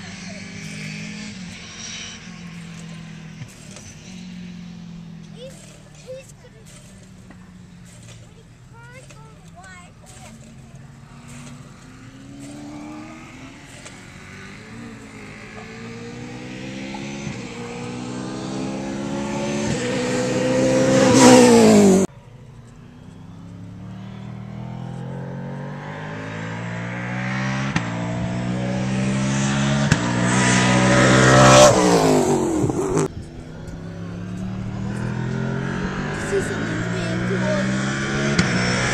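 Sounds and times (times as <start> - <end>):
racing car engines at full throttle: 0.0 - 38.9.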